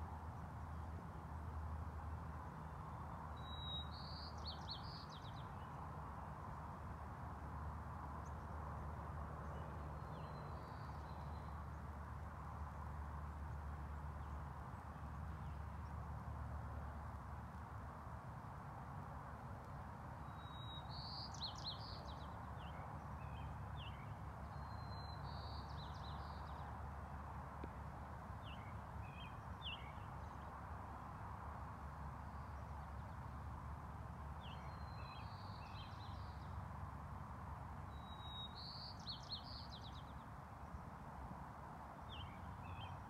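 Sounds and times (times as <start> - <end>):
songbird singing: 0.4 - 6.9, 7.6 - 17.0, 19.6 - 33.5, 34.2 - 37.0, 37.8 - 41.0, 41.9 - 43.0.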